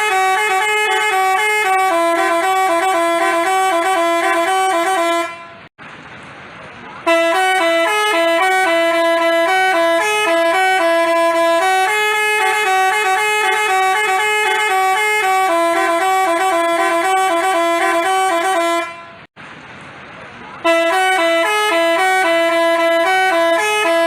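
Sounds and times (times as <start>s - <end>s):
musical bus horn melody: 0.0s - 5.7s, 7.0s - 19.3s, 20.6s - 24.0s.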